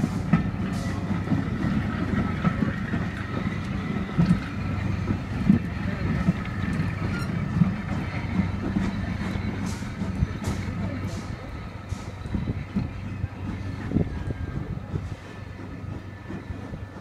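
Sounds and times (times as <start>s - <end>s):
carriage wheels rumbling on rail: 0.0s - 17.0s.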